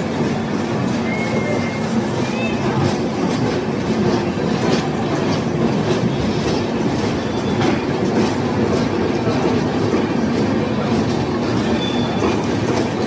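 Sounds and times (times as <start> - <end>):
train coaches rumbling: 0.0 - 13.0
wheels clicking over rail joints: 0.0 - 13.0.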